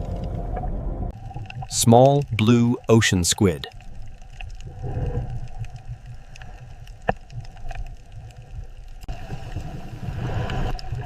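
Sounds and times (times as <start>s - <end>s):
water rumbling and gurgling: 0.0s - 11.0s.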